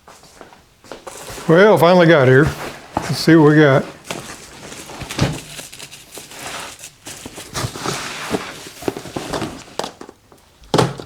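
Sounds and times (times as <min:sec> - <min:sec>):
package rustling and crinkling: 0:01.0 - 0:10.2.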